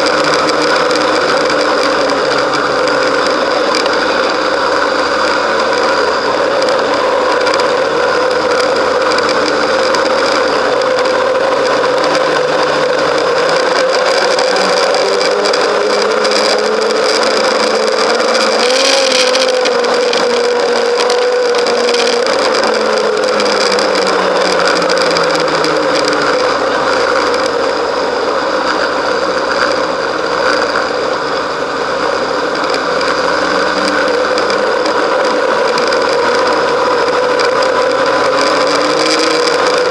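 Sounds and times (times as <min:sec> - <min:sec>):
snowmobile engine running: 0:00.0 - 0:39.9
snowmobile track noise: 0:00.0 - 0:39.9.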